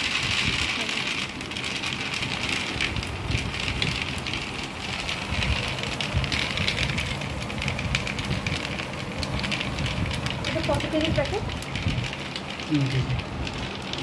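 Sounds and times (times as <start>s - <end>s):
dry kibble pouring into jar: 0.0s - 14.0s.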